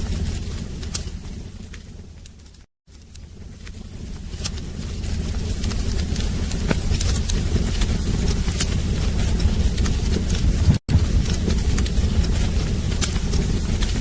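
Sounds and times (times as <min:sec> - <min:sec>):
fire crackling and popping: 0:00.0 - 0:14.0
fire low rumble: 0:00.0 - 0:14.0.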